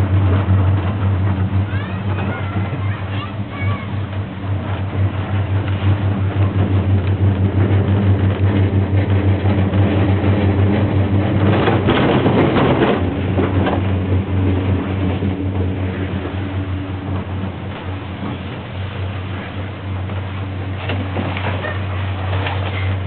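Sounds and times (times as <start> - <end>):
gondola cabin humming and rattling: 0.0 - 23.0
rush of noise and clatter: 0.0 - 23.0.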